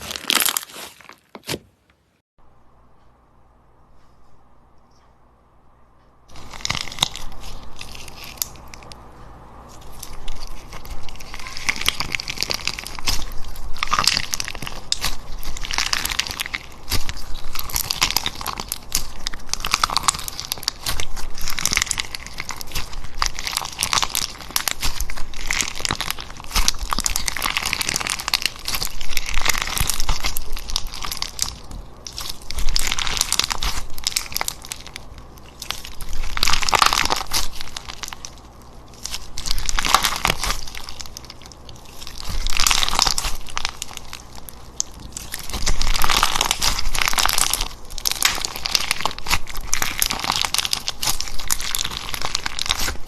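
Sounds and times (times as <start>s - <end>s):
slime squeezed crunching: 0.0s - 1.7s, 6.3s - 9.0s, 9.6s - 53.0s.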